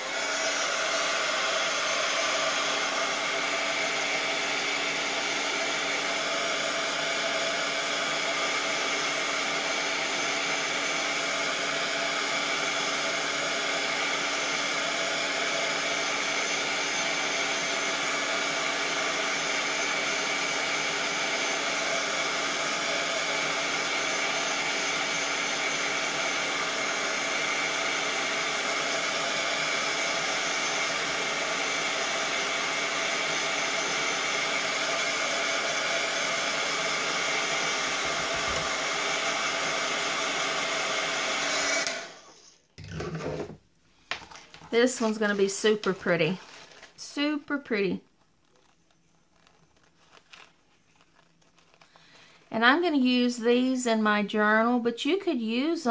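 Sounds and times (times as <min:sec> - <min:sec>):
heat gun whirring: 0:00.0 - 0:48.0.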